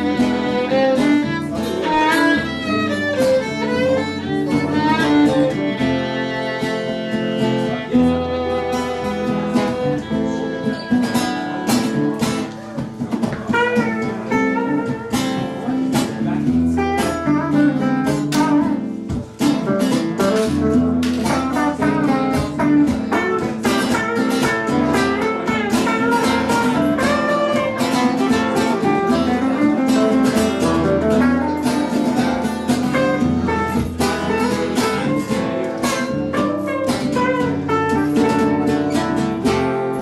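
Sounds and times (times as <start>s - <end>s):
guitar plucked notes: 0.0s - 40.0s.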